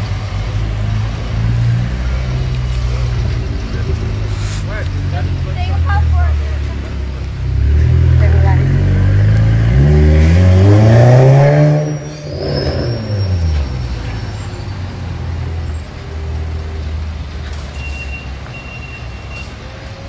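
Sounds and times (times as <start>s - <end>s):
diesel truck engine revving and idling: 0.0s - 20.0s.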